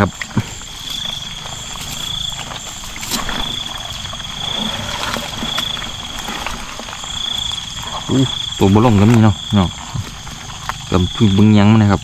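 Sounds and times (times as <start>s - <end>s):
high insect trill: 0.0s - 12.0s
water sloshing: 0.6s - 10.9s
wet net rustling in bucket: 0.7s - 11.0s.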